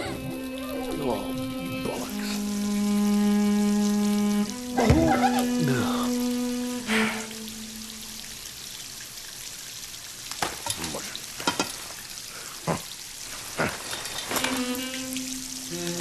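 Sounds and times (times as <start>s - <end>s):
water hissing from a tap: 0.0s - 16.0s.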